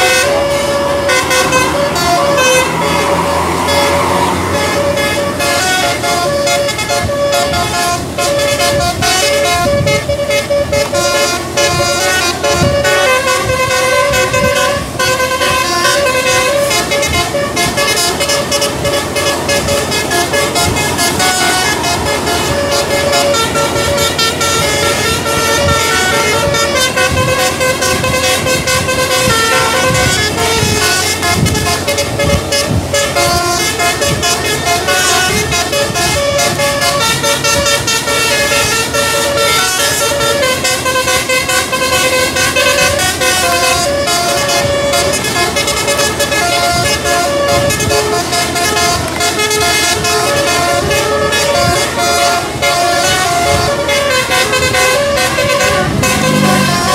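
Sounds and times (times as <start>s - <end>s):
musical bus horn playing a tune: 0.0s - 56.9s.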